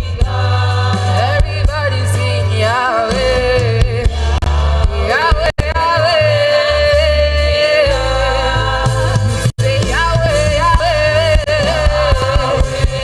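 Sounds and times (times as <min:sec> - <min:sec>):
band with heavy bass: 0:00.0 - 0:13.0
wordless singing melody: 0:00.0 - 0:13.0.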